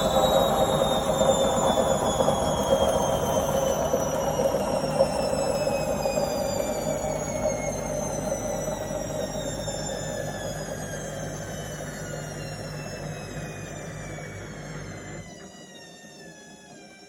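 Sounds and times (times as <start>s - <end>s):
washing machine low rumble: 0.0s - 15.5s
washing machine drum whine: 0.0s - 16.8s.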